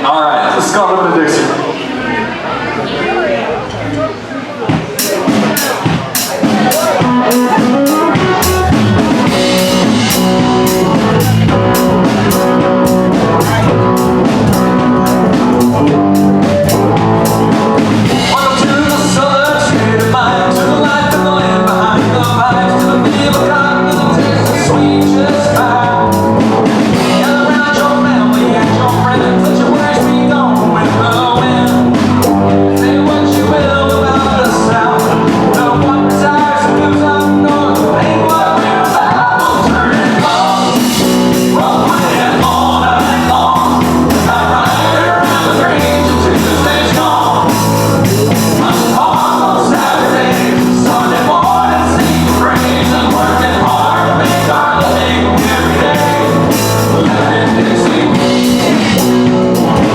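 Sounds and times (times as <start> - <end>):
live country-rock band: 3.6 - 59.9
lead singer: 4.7 - 59.9.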